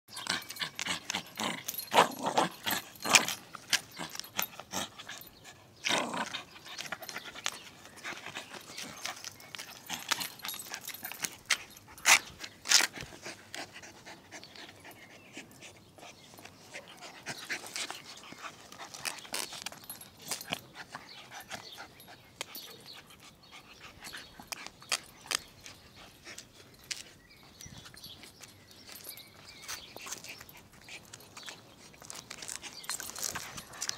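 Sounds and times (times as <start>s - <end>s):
dog panting: 0.2s - 28.1s.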